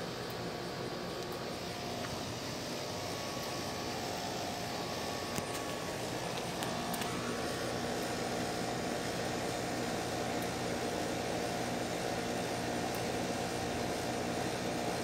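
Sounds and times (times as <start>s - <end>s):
compressor hum: 0.0s - 15.0s
condenser fan whoosh: 0.0s - 15.0s.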